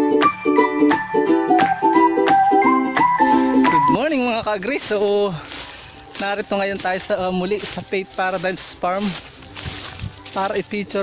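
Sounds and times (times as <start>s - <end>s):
intro music with repeating chords: 0.0s - 11.0s.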